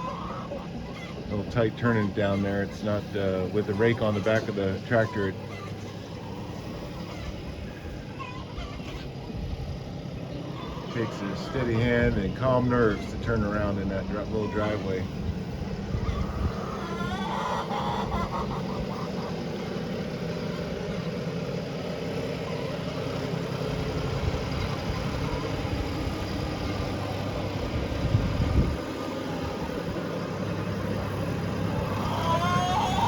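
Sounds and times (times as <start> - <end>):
tractor engine running: 0.0 - 17.0, 18.0 - 33.0.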